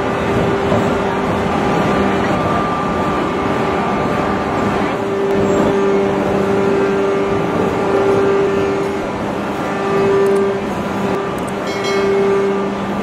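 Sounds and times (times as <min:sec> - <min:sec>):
hydraulic forging press humming: 0:00.0 - 0:13.0.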